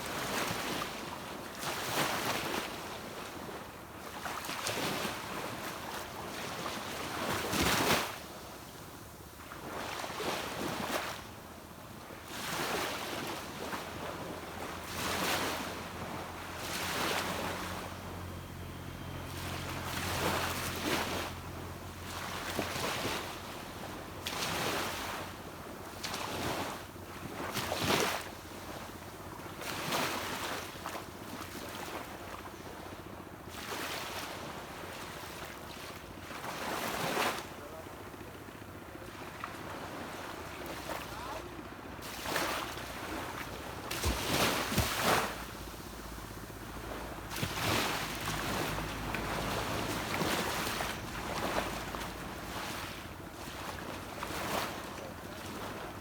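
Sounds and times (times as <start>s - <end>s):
distant boat engine hum: 0.0s - 56.0s
small waves breaking on beach: 0.0s - 56.0s.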